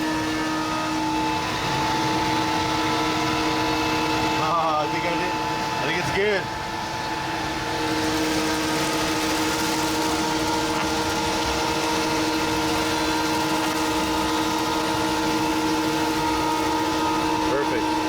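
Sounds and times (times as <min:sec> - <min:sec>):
router spindle whining: 0:00.0 - 0:18.0.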